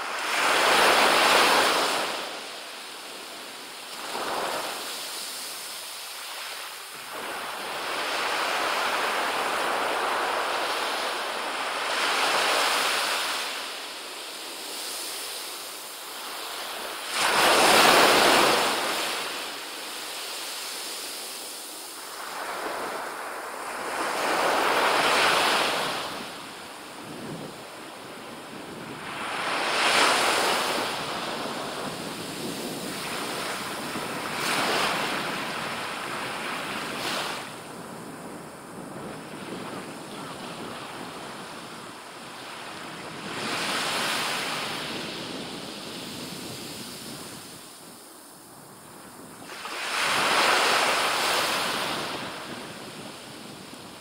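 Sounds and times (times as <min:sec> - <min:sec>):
waves breaking on sand beach: 0:00.0 - 0:54.0.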